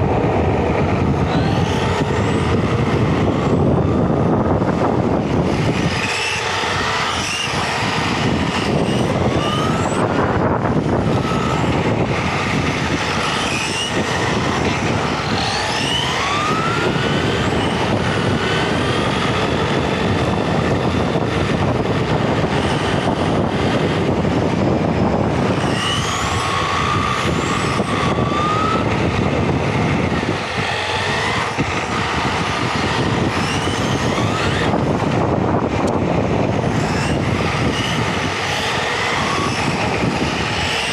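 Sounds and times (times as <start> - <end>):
electric motor whine: 0.0 - 40.9
tyre and drivetrain noise on asphalt: 0.0 - 40.9.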